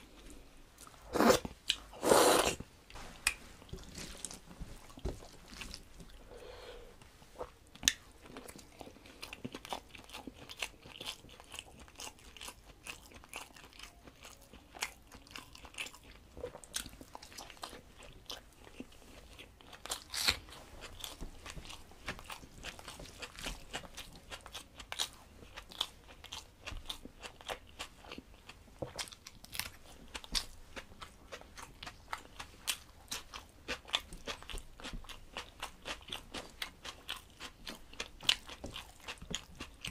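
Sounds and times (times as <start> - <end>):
food crunching: 0.1 - 6.2, 7.4 - 39.9
chewing with mouth clicks: 7.4 - 39.9.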